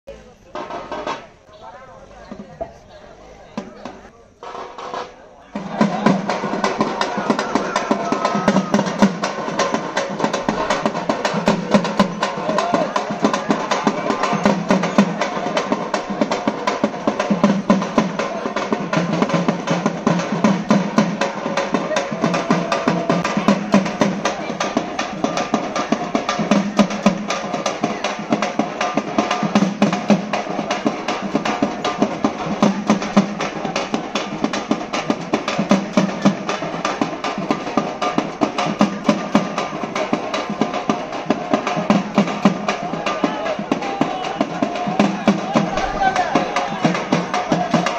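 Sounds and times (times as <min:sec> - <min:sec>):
frame drums beaten with sticks: 0:00.5 - 0:01.5, 0:03.6 - 0:47.9.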